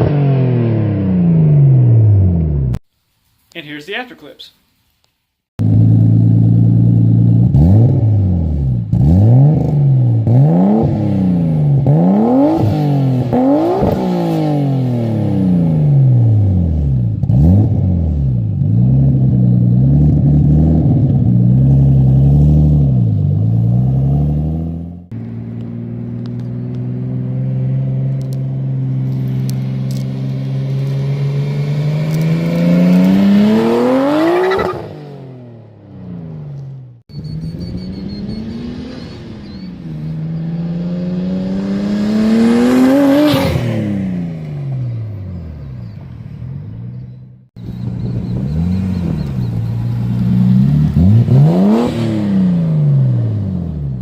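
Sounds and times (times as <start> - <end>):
car engine revving: 5.6 - 54.0.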